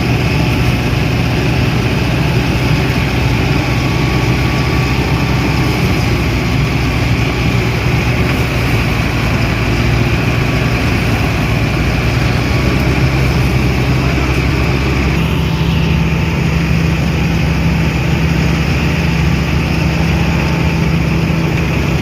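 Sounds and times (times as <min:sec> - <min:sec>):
harvester machinery noise: 0:00.0 - 0:22.0
tractor diesel engine droning: 0:00.0 - 0:22.0.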